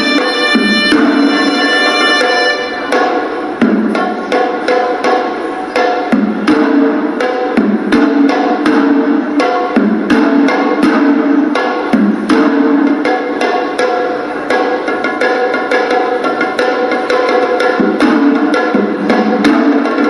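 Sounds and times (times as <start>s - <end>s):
fast drumming: 0.0s - 20.0s.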